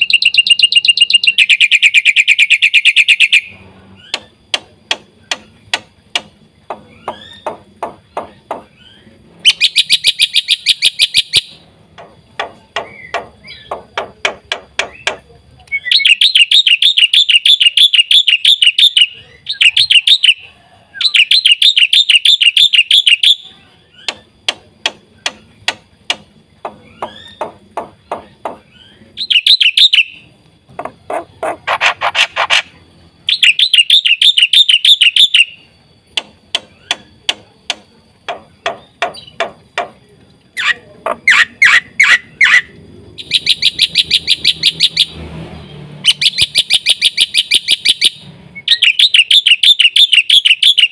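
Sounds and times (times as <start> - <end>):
starling singing: 0.0 - 5.8, 6.6 - 50.9.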